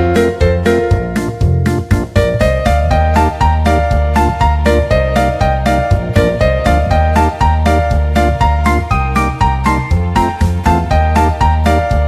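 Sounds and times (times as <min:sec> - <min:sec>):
steady bass line: 0:00.0 - 0:12.0
upbeat electric piano tune: 0:00.0 - 0:12.0.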